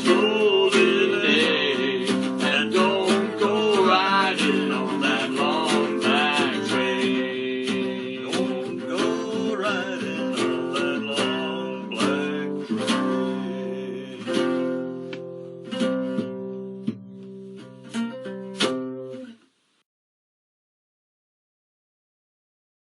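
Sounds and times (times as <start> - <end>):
acoustic guitar strumming: 0.0 - 19.4.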